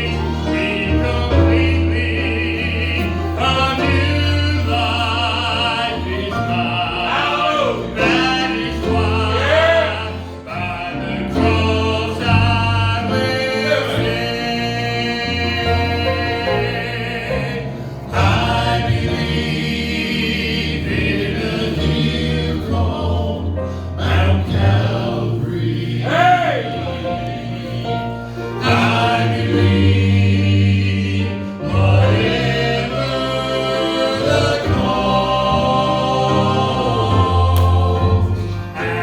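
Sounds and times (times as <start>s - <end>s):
gospel group singing in harmony: 0.0s - 39.0s
instrumental accompaniment: 0.0s - 39.0s.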